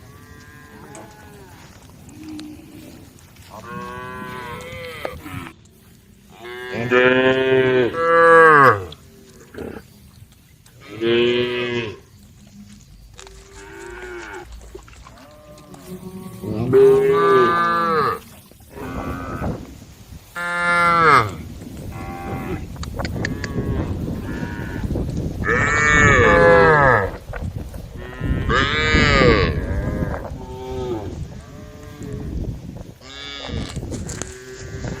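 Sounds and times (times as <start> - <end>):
cows mooing: 0.0 - 5.6, 6.3 - 9.9, 10.8 - 19.7, 20.4 - 27.2, 28.0 - 32.4.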